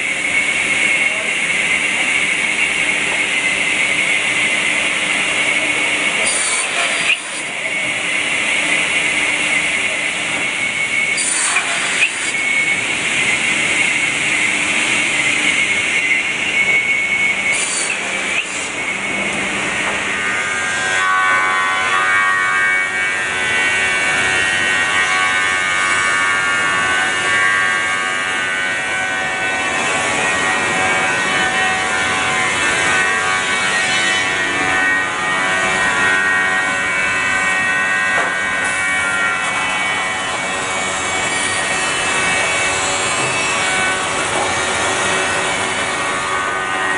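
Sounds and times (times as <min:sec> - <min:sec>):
sawing machinery whine: 0:00.0 - 0:46.9.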